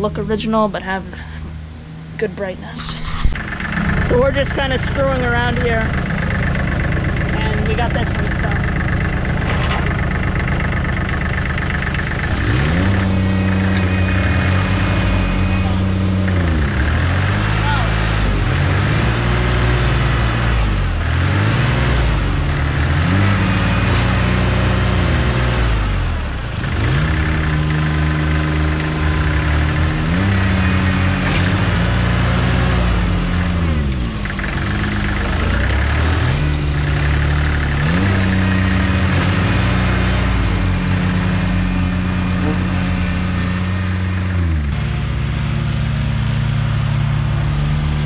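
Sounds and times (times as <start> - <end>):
tractor diesel engine revving: 0.0 - 48.0.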